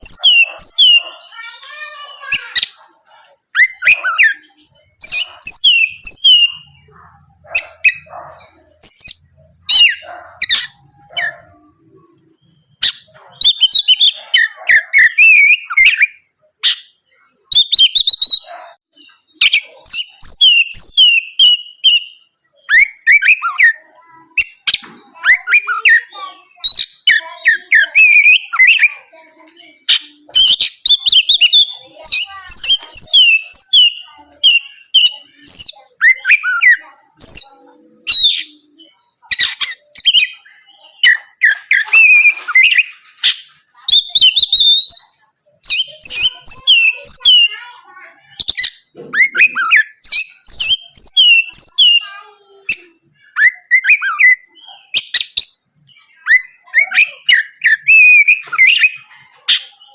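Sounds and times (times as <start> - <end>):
songbird whistling and chattering: 0.0 - 59.9.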